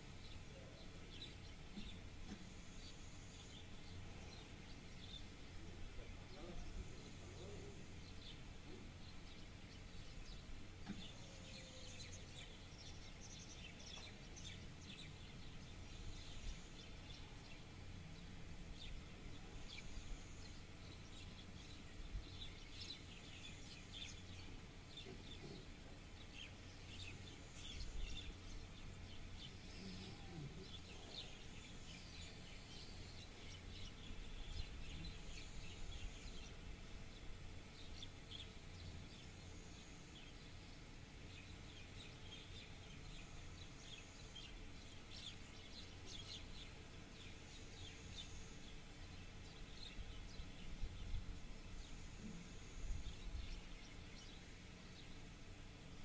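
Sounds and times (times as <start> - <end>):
small birds chirping faintly: 0.0 - 56.0
steady low hum: 0.0 - 56.0.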